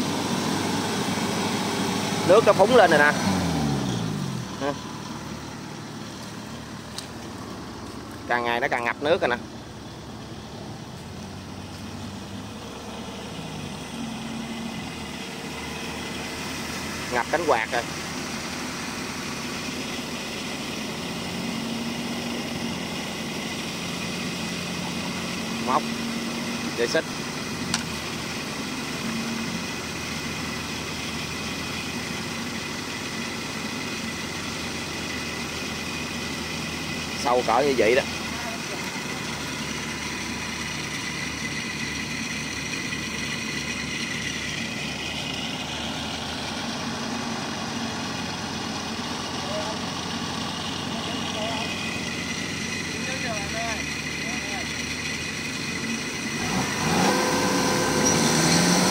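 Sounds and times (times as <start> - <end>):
diesel engine running steadily: 0.0 - 58.9.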